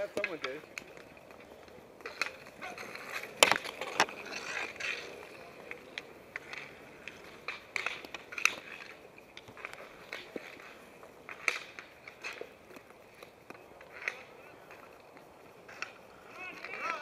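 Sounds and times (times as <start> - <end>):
hockey sticks clacking: 0.0 - 17.0
skate wheels rolling on asphalt: 0.0 - 17.0.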